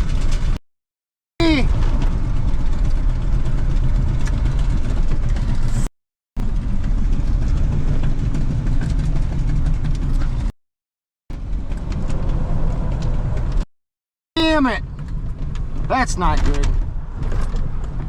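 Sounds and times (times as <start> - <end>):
vehicle engine and road noise: 0.0 - 0.6, 1.4 - 10.6, 11.3 - 13.7, 14.4 - 18.0.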